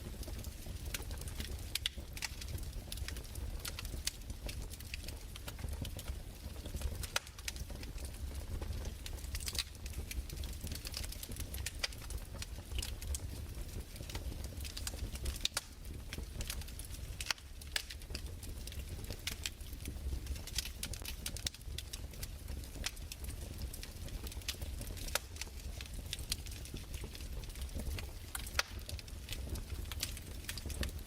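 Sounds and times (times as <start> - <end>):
fire crackling and popping: 0.0 - 31.0
low fire rumble: 0.0 - 31.0.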